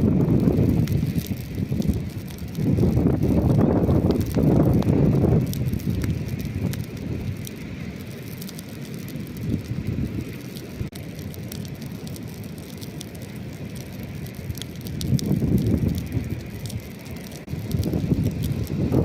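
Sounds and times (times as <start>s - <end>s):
campfire crackling and popping: 0.0s - 19.0s
ocean waves rumbling: 0.0s - 19.0s.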